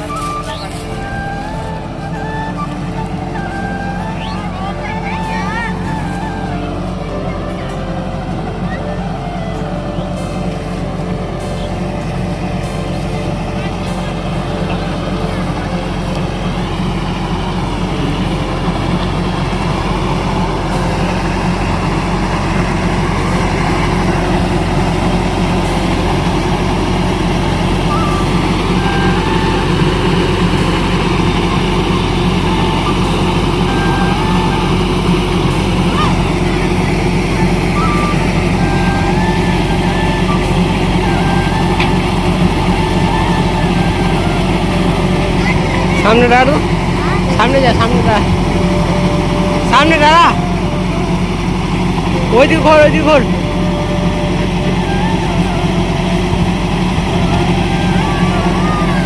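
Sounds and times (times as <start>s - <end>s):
diesel engine droning: 0.0s - 59.0s
faint wavering whine: 0.0s - 59.0s.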